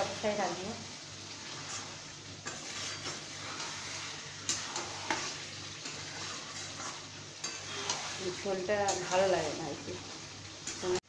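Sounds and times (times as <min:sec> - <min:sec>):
chicken sizzling in oil: 0:00.0 - 0:11.0
spatula scraping a pan: 0:01.2 - 0:11.0.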